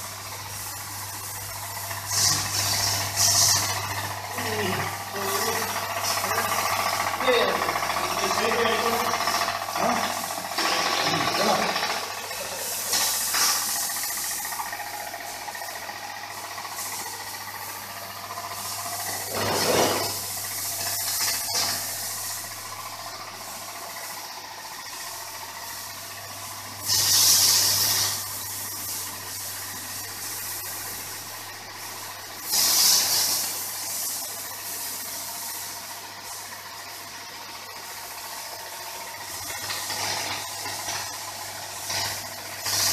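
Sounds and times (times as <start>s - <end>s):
electric motor humming: 0.0s - 42.9s
water jet hissing on floor: 0.0s - 42.9s.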